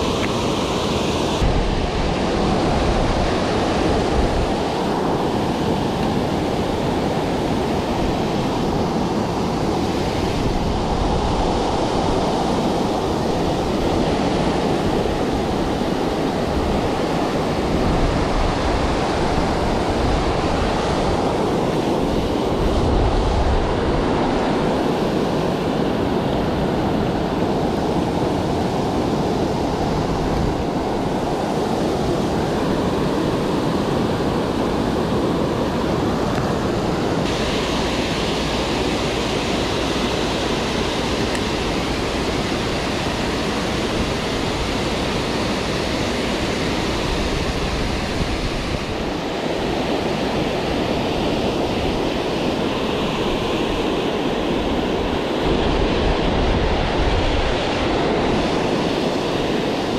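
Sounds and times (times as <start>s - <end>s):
water rushing over dam spillway: 0.0s - 59.9s.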